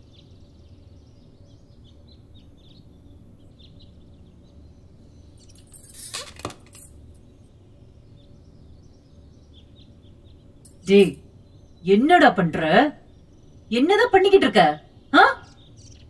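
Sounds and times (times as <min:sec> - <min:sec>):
faint high chirping: 0:00.0 - 0:16.0.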